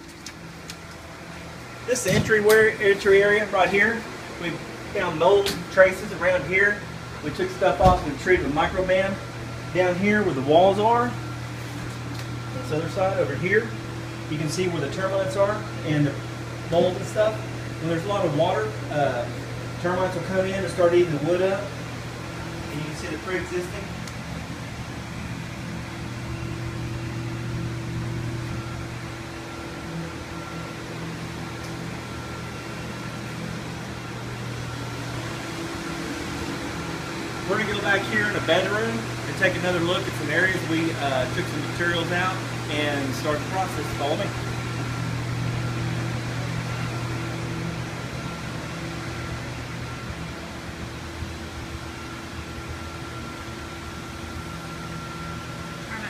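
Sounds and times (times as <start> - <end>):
fan-driven machine humming: 0.0 - 56.0.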